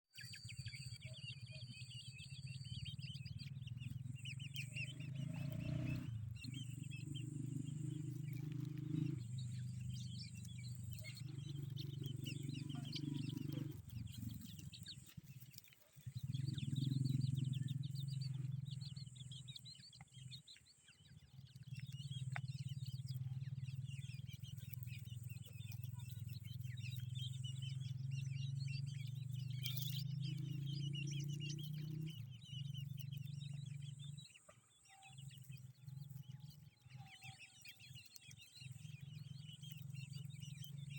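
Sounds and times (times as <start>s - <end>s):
chicks peeping: 0.1s - 40.9s.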